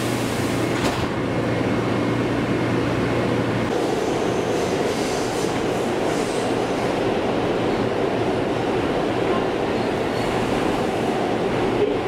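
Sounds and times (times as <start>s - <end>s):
subway car wheels rumbling: 0.0s - 12.0s.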